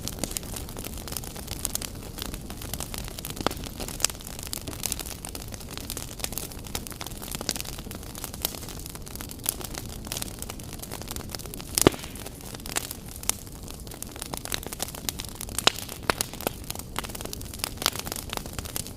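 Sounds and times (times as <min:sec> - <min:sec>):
fire crackling and popping: 0:00.0 - 0:18.9
flames rushing: 0:00.0 - 0:18.9.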